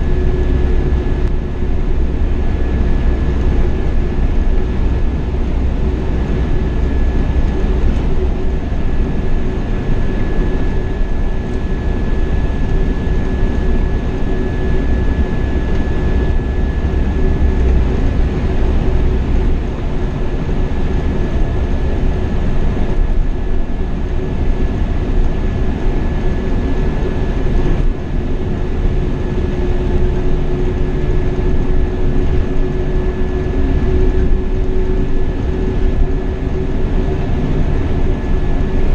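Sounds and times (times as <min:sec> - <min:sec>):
coach engine and road noise: 0:00.0 - 0:38.9.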